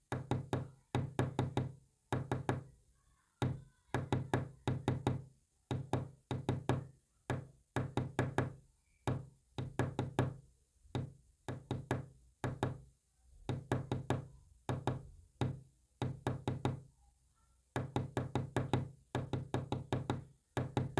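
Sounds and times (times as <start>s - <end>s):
knocking on hollow surface: 0.1s - 2.7s, 3.4s - 12.8s, 13.5s - 16.8s, 17.8s - 20.9s.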